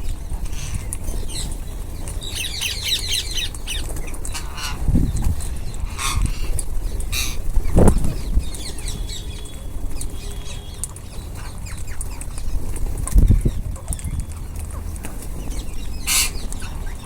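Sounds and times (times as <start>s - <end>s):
parrots chattering: 0.0s - 17.0s.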